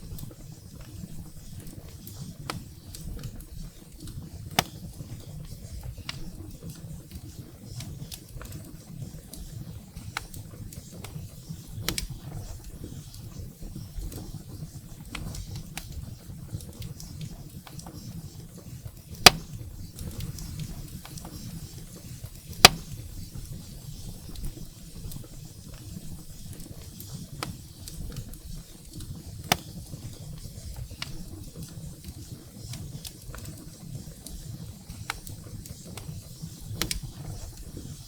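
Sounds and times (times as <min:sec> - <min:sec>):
burning firewood popping: 0:00.0 - 0:38.0
fire crackling: 0:00.0 - 0:38.0
wood fire flames rumbling: 0:00.0 - 0:38.0.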